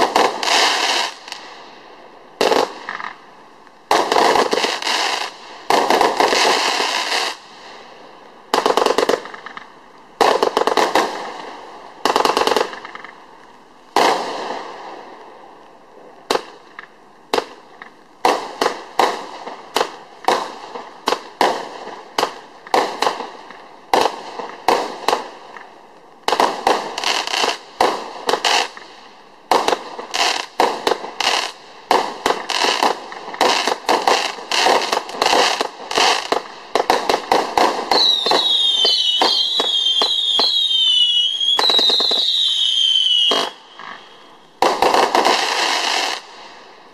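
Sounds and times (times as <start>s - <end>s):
fireworks shots firing: 0.0s - 1.5s, 2.4s - 3.2s, 3.9s - 7.4s, 8.5s - 13.2s, 13.9s - 14.9s, 18.2s - 28.9s, 29.5s - 46.6s
fireworks crackling: 0.0s - 46.9s.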